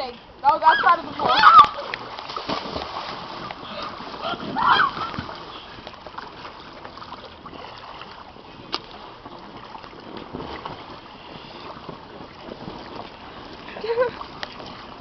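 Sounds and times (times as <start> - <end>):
pool water sloshing and splashing: 0.0 - 15.0.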